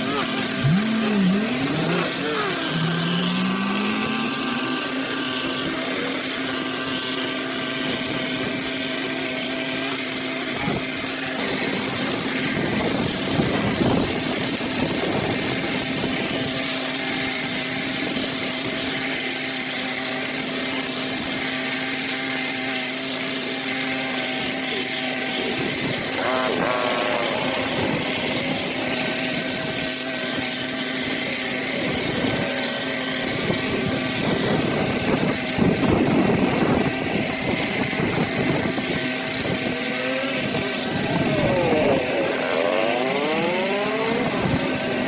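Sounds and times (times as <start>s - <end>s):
small engine running: 0.0s - 45.0s.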